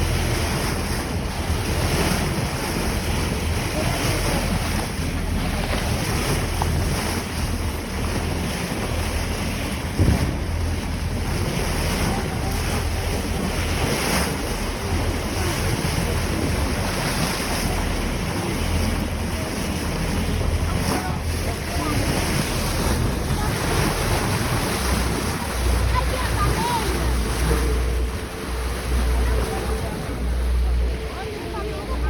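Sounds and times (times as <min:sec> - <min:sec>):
steady low rumble: 0:00.0 - 0:32.0
water rushing along hull: 0:00.0 - 0:32.0
wind buffeting microphone: 0:00.0 - 0:32.0.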